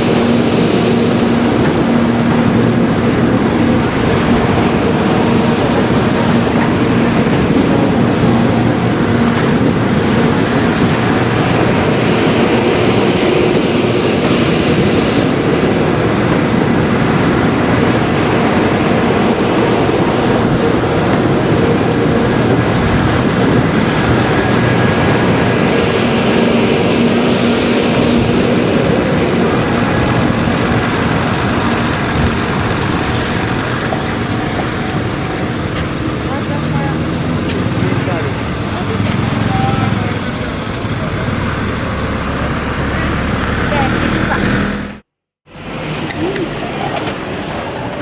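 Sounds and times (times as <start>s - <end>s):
train rumbling over crossing: 0.0s - 48.0s.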